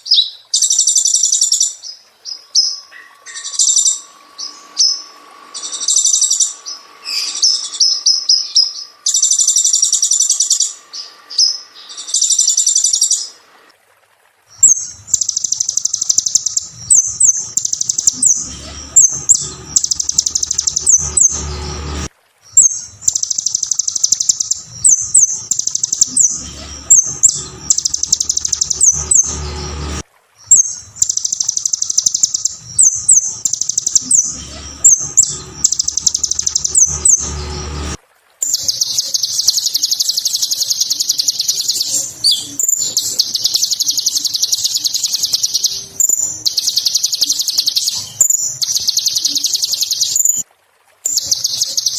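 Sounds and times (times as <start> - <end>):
sunbird twittering song: 0.0 - 13.4, 14.5 - 50.4, 51.1 - 51.9.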